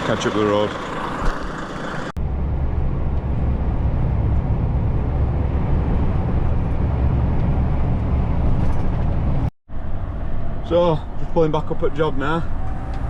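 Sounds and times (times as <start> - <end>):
heavy truck driving: 0.0 - 13.0.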